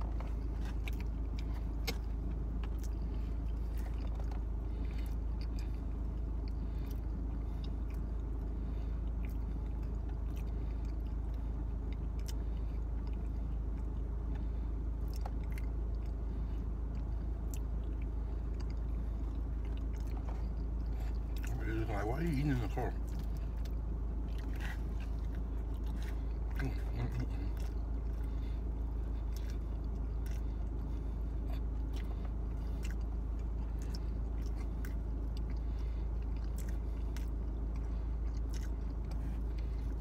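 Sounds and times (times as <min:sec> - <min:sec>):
chewing food: 0:00.0 - 0:40.0
steady low hum: 0:00.0 - 0:40.0.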